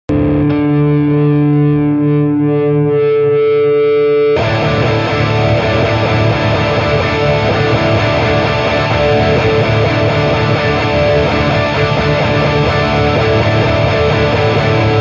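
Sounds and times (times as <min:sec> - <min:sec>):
distorted electric guitar: 0:00.1 - 0:15.0.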